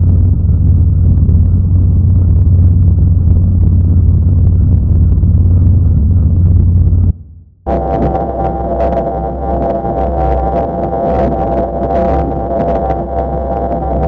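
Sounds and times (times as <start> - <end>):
low hum with rumble: 0.0 - 14.0.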